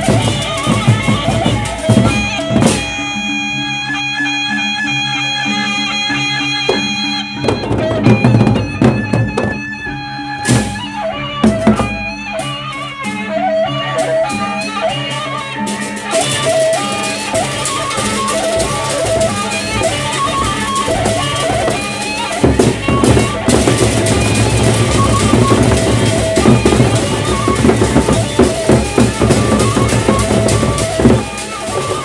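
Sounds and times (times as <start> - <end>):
heavy drum strokes: 0.0 - 3.4, 6.7 - 32.0
cymbals clashing: 0.0 - 32.0.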